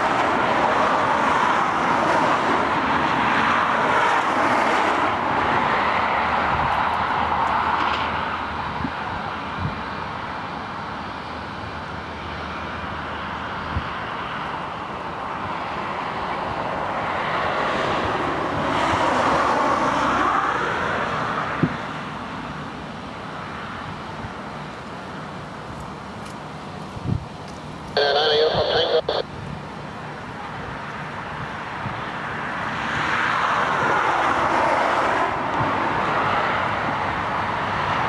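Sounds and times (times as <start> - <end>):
jet engine whine: 0.0 - 38.0
jet engines taxiing: 0.0 - 38.0.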